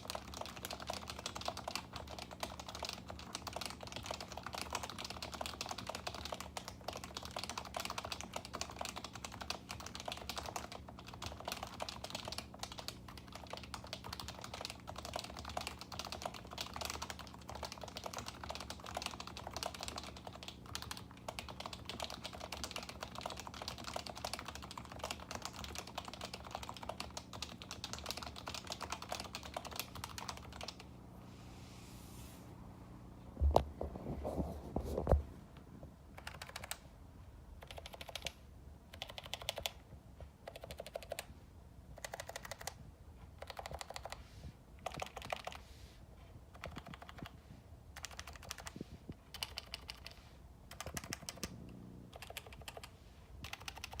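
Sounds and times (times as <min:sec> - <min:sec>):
fast typing on keyboard: 0:00.0 - 0:30.9, 0:36.2 - 0:36.8, 0:37.6 - 0:39.8, 0:40.4 - 0:41.3, 0:42.0 - 0:42.8, 0:43.4 - 0:44.2, 0:44.8 - 0:45.6, 0:46.5 - 0:51.5, 0:52.1 - 0:54.0.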